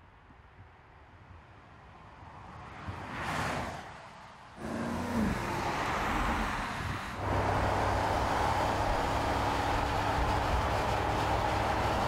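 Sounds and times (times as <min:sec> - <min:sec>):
road drone: 0:01.1 - 0:12.0.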